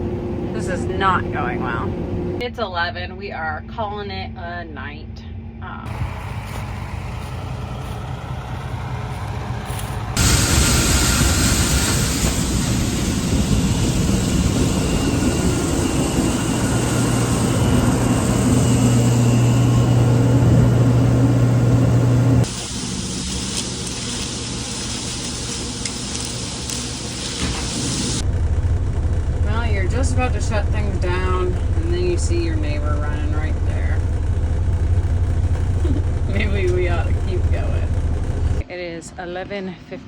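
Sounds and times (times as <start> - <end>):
combine harvester running: 0.0 - 2.4, 5.9 - 38.7.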